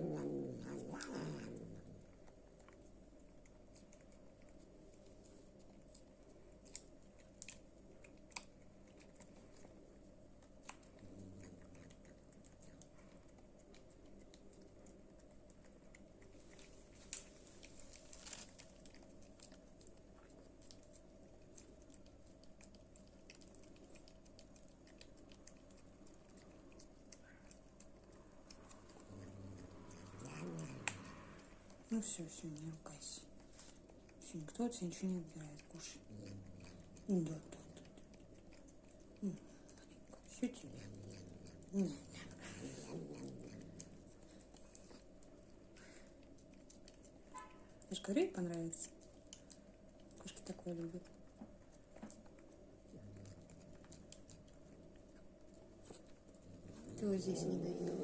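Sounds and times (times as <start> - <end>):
cat chewing food: 0.0 - 58.0
low steady hum: 0.0 - 58.0.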